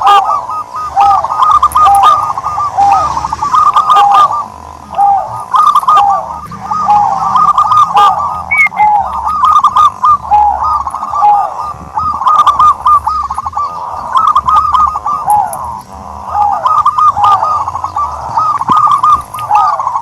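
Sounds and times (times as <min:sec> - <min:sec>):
turtledoves cooing: 0:00.0 - 0:20.0.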